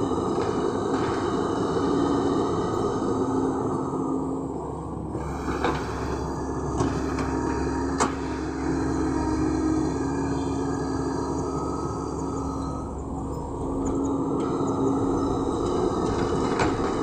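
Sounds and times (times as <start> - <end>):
excavator engine and hydraulic hum: 0.0 - 17.0.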